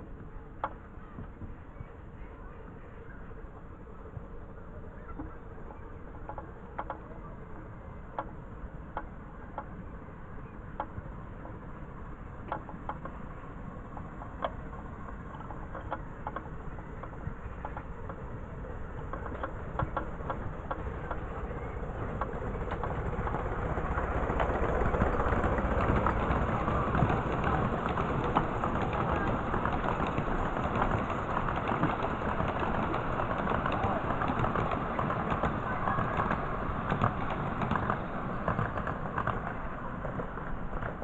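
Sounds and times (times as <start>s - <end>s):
wheels clicking over rail joints: 0.0s - 2.2s, 3.5s - 41.0s
miniature train running: 0.0s - 41.0s.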